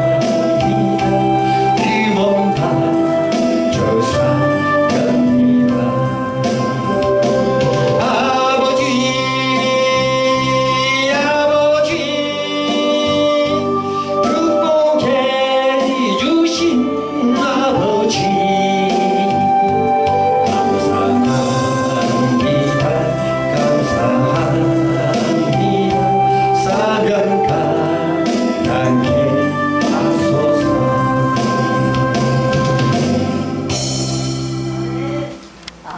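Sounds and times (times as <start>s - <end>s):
person singing gospel song: 0.0s - 33.0s
instrumental accompaniment: 0.0s - 35.9s.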